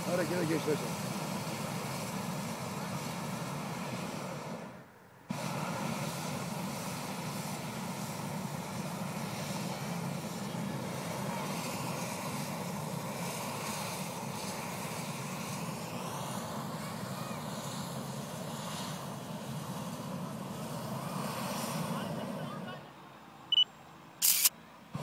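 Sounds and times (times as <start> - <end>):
propane burners roaring: 0.0 - 22.9, 24.2 - 25.0.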